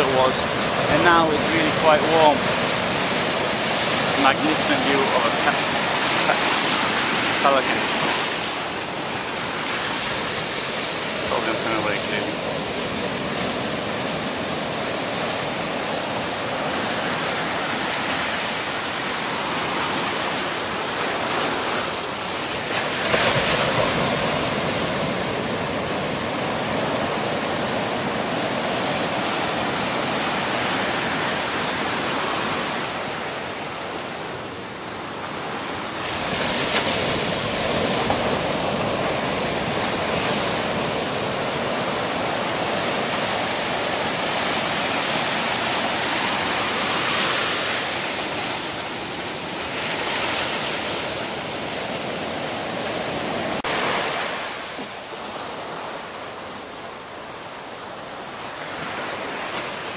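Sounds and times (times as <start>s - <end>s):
surf breaking on shore: 0.0s - 59.9s.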